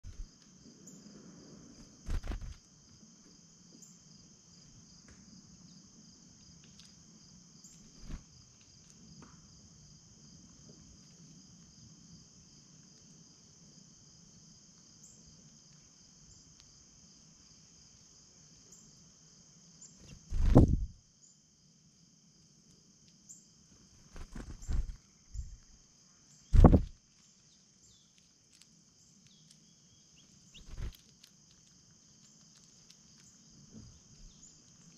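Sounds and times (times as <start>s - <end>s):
cricket chorus trilling: 0.0s - 34.9s.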